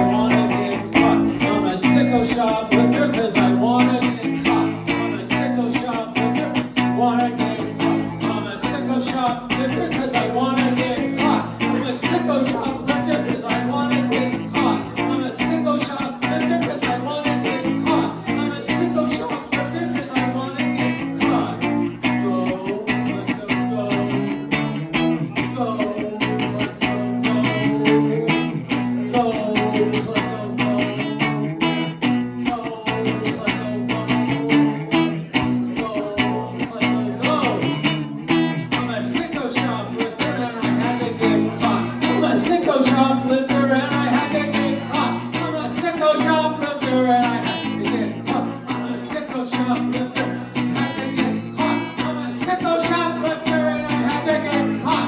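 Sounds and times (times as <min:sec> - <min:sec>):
live band guitars over beat: 0:00.0 - 0:55.0.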